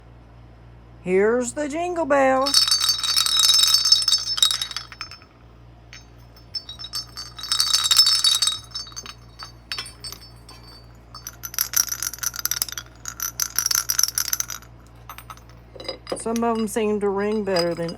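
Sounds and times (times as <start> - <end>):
ceramic jingle bells shaken: 2.4 - 5.2, 6.0 - 17.9.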